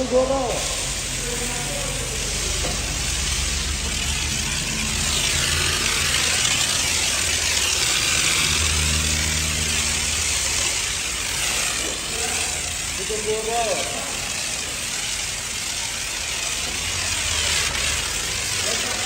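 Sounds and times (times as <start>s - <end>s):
high-pressure spray hissing: 0.0s - 19.0s.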